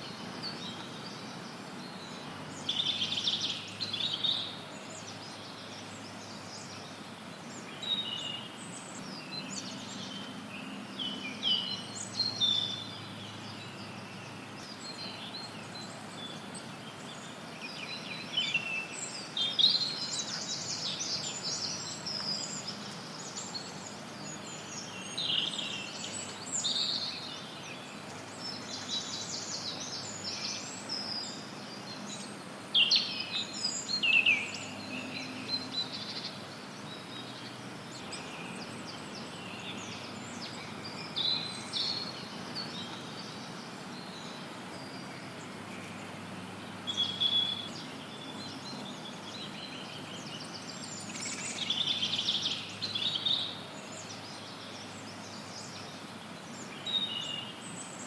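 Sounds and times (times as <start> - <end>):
birds chirping and singing: 0.0 - 58.0
white noise hiss: 0.0 - 58.0.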